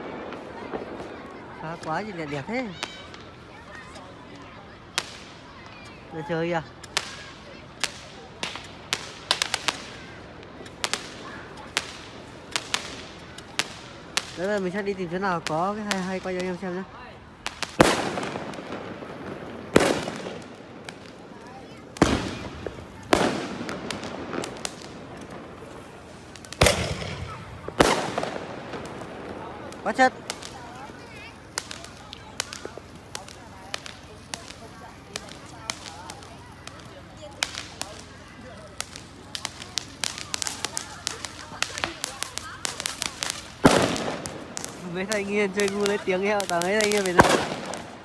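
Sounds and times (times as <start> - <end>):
firecrackers banging: 0.0 - 48.0.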